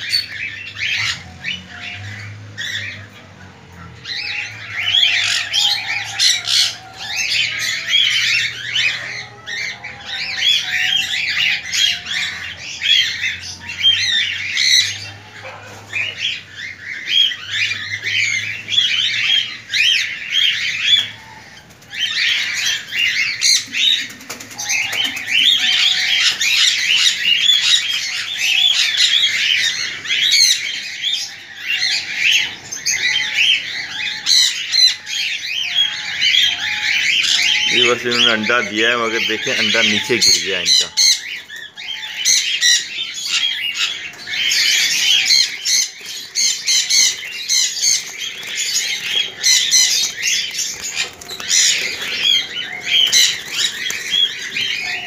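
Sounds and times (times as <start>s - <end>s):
small birds chirping in chorus: 0.0s - 55.0s.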